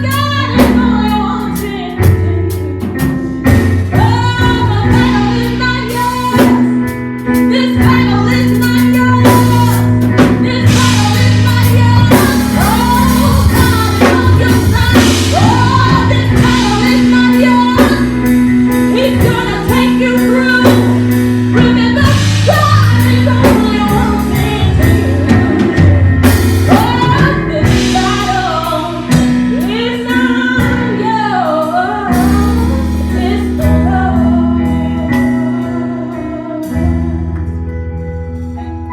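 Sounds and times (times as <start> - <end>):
gospel band with drums and bass: 0.0 - 38.9.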